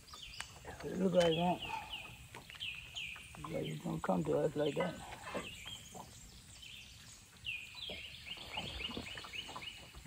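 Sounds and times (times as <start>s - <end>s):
bird calling: 0.0s - 10.0s.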